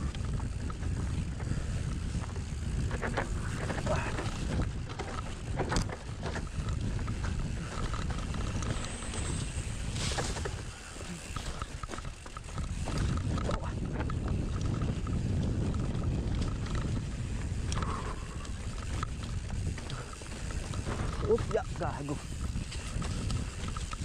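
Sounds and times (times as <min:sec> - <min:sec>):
bike rattling clicks and knocks: 0:00.0 - 0:24.0
wind noise on microphone: 0:00.0 - 0:24.0.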